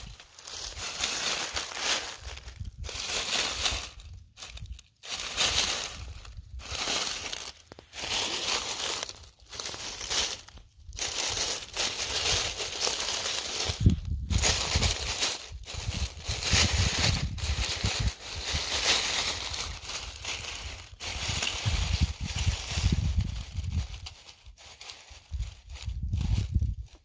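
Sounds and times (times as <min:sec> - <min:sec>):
dry leaves crunching and rustling: 0:00.0 - 0:27.0.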